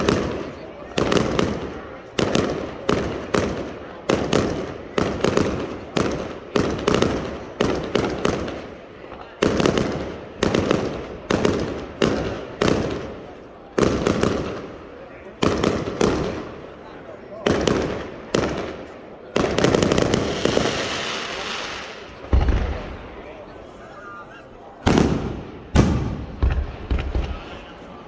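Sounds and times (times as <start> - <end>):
fireworks bangs echoing: 0.0 - 23.7, 24.8 - 28.0.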